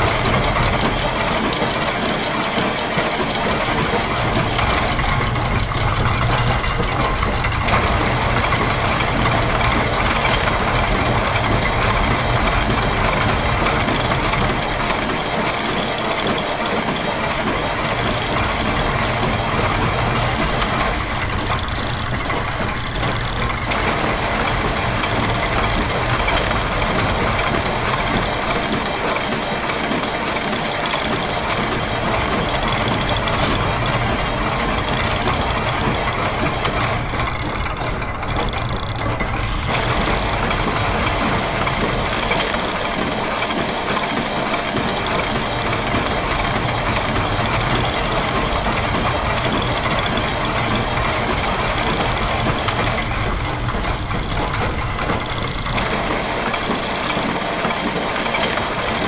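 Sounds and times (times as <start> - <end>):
gears and ratchets clicking: 0.0 - 59.0.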